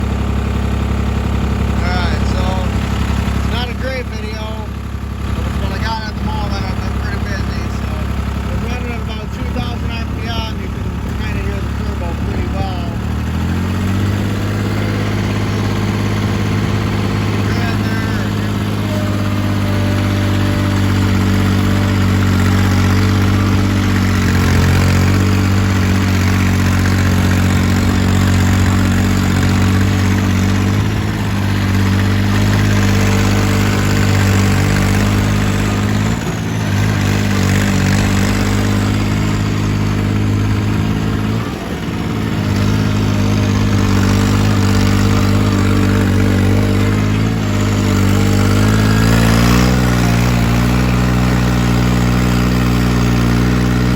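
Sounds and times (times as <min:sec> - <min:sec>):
turbocharged engine running: 0:00.0 - 0:53.9
turbo whistling: 0:01.7 - 0:53.9.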